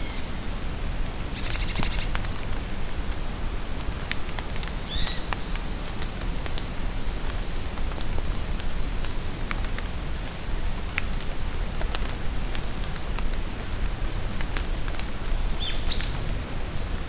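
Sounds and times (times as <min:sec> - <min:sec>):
rain falling in forest: 0:00.0 - 0:17.0.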